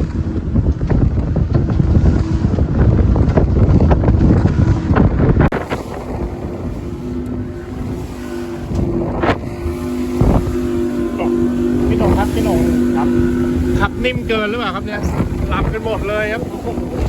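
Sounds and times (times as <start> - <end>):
boat engine drone: 0.0 - 17.0
wind buffeting microphone: 0.0 - 17.0.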